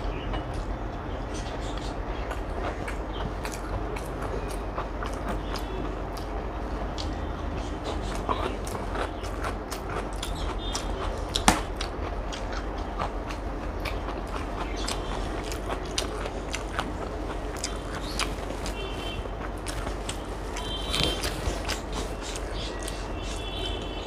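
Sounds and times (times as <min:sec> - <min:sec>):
close-up chewing and mouth clicks: 0:00.0 - 0:24.0.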